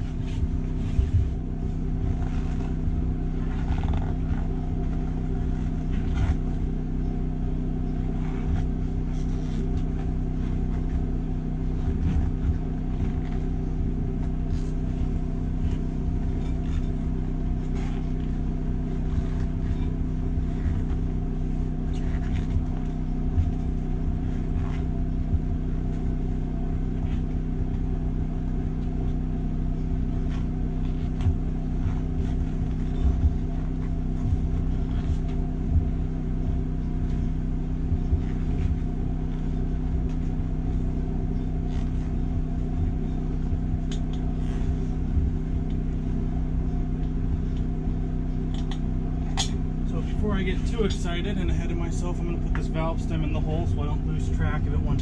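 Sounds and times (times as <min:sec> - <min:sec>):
inner tube tapping and rubbing: 0:00.0 - 0:49.8
machine hum: 0:00.0 - 0:55.0.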